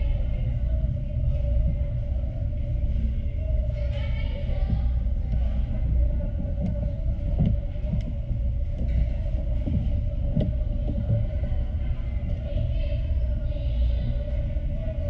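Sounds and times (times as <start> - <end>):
low rumble: 0.0 - 15.0
steady hum: 0.0 - 15.0.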